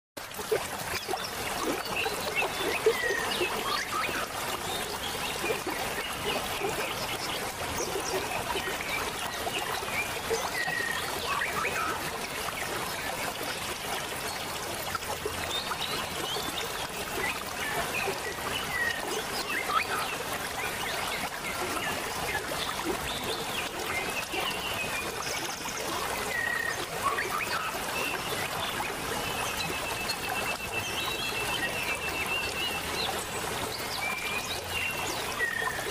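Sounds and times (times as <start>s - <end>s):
small waterfall splashing: 0.2s - 35.9s.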